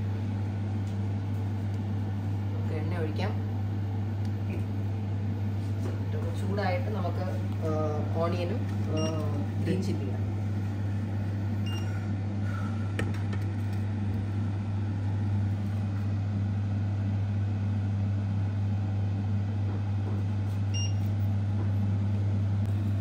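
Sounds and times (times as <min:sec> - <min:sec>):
fan noise: 0:00.0 - 0:23.0
induction hob electrical hum: 0:00.0 - 0:23.0.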